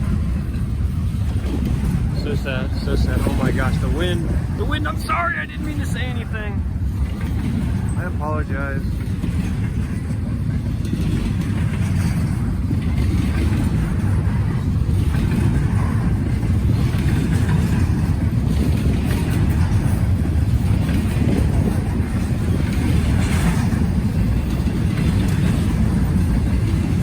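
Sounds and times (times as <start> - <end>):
freight train passing: 0.0 - 27.0
wind buffeting microphone: 0.0 - 27.0.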